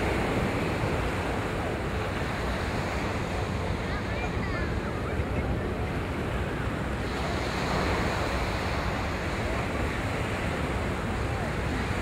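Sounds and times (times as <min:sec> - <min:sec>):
waves washing onto sand: 0:00.0 - 0:12.0
wind buffeting microphone: 0:00.0 - 0:12.0.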